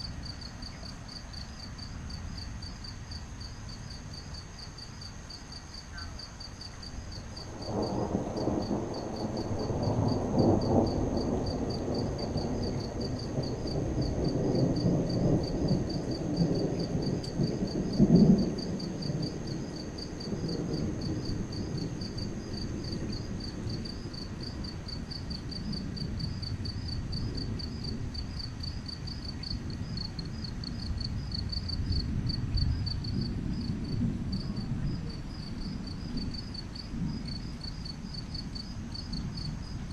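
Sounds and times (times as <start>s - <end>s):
crickets chirping: 0.0s - 39.9s
thunder rumbling: 7.1s - 39.9s.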